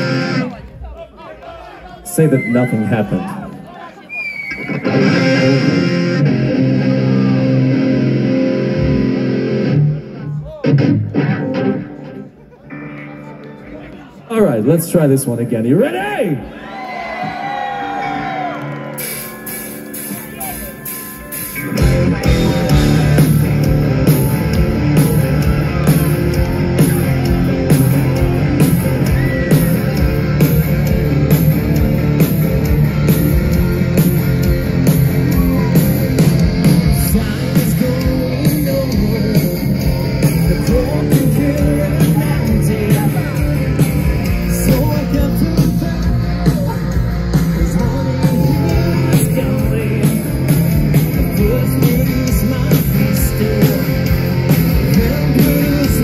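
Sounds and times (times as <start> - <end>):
rock band playing: 0.0 - 0.8, 4.3 - 16.5, 17.1 - 56.0.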